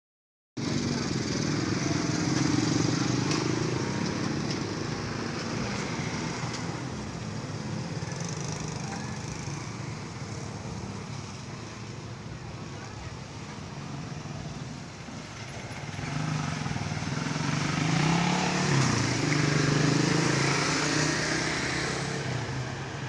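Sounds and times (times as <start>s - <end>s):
motorcycles driving: 0.6s - 23.0s
road traffic: 0.6s - 23.0s.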